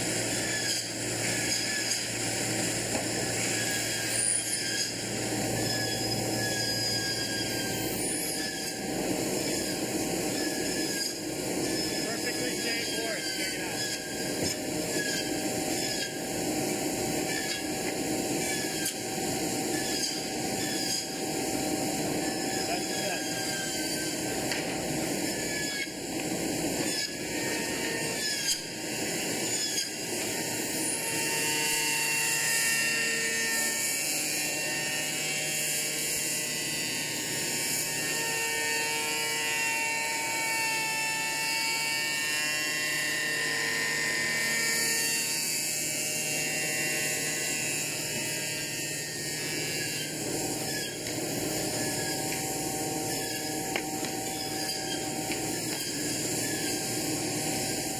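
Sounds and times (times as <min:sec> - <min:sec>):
power tool whine: 0:00.0 - 0:57.9.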